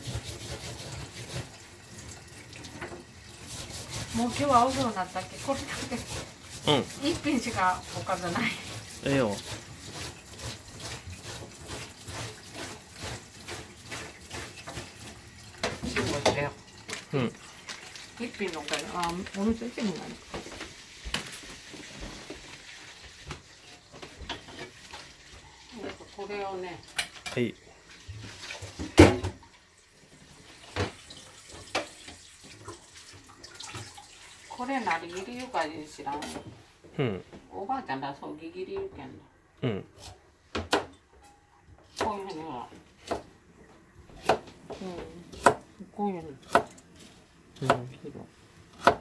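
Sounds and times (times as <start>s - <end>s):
tap water running: 0.0s - 36.5s, 41.8s - 49.0s.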